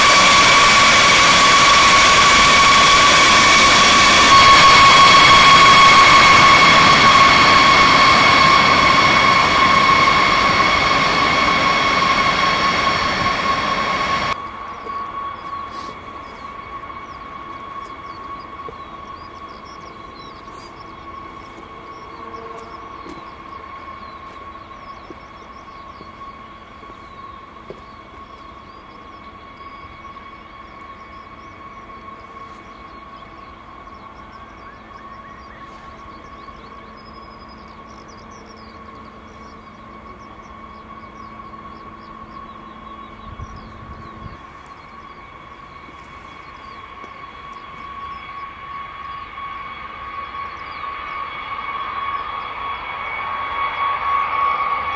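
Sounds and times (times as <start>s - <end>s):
jet engines rushing and whining: 0.0s - 54.9s.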